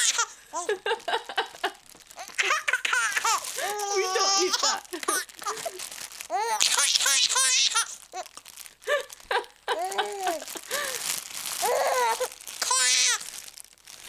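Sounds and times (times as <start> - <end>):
baby laughing: 0.0 - 8.3, 9.4 - 10.8, 11.6 - 13.2
plastic crinkling: 0.0 - 14.0.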